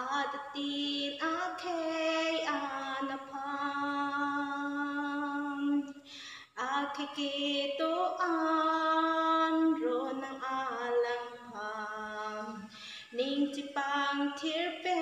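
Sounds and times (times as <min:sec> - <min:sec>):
woman singing unaccompanied: 0:00.0 - 0:06.0, 0:06.6 - 0:15.0.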